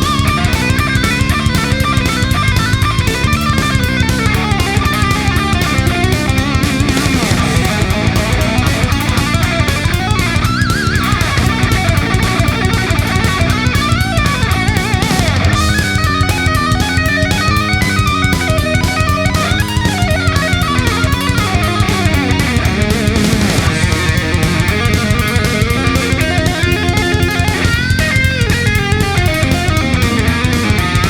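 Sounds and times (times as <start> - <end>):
distorted electric guitar: 0.0 - 31.0
drum kit: 0.0 - 31.0
lead guitar with vibrato: 0.0 - 31.0.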